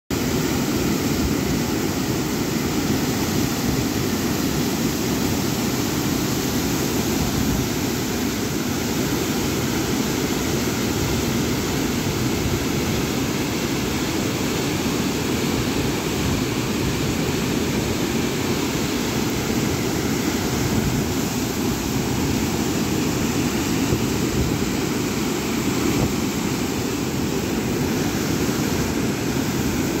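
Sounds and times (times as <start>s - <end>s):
water rushing through spillway: 0.1s - 30.0s.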